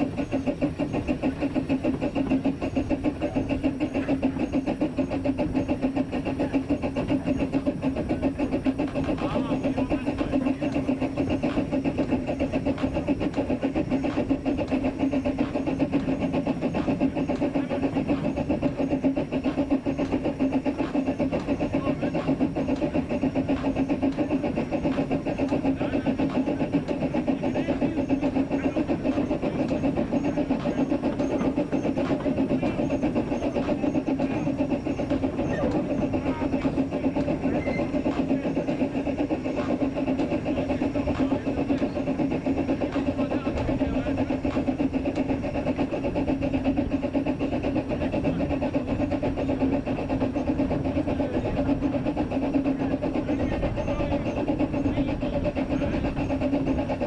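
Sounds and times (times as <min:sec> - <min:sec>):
steam locomotive working noise: 0:00.0 - 0:57.0
wheels on rails: 0:00.0 - 0:57.0.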